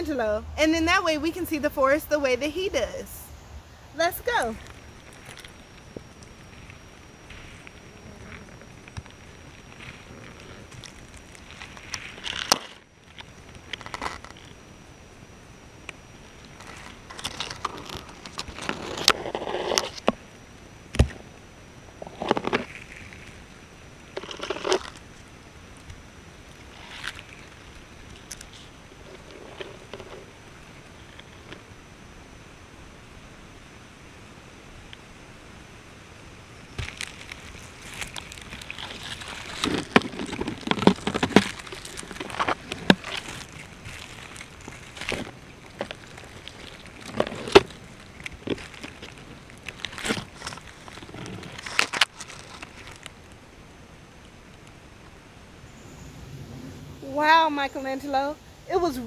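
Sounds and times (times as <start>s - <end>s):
grass and dry leaves rustling: 0.0s - 59.0s.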